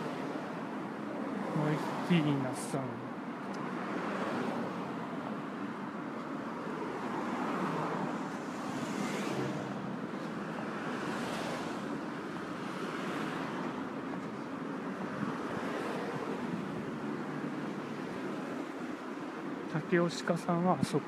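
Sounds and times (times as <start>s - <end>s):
road traffic roar: 0.0s - 21.0s.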